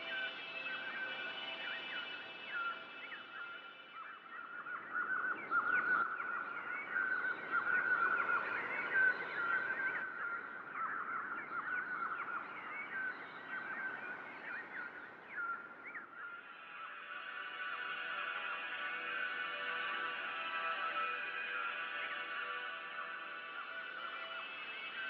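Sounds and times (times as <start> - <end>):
small birds chirping and twittering: 0.0 - 25.0.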